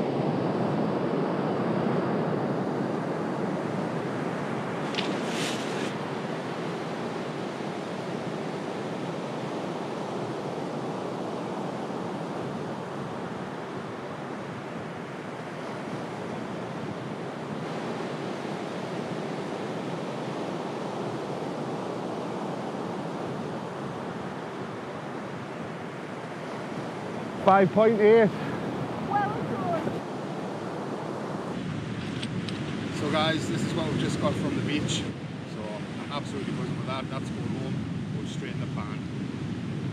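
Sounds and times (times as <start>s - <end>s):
surf on a pebble beach: 0.0s - 39.9s.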